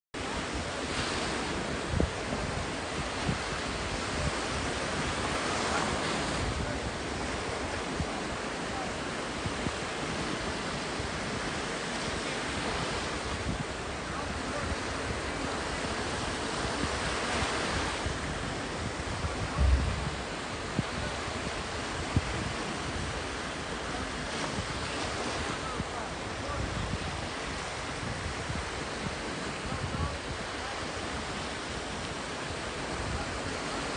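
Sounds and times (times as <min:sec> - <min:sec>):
sea waves washing ashore: 0:00.2 - 0:33.9
wind buffeting microphone: 0:00.2 - 0:33.9.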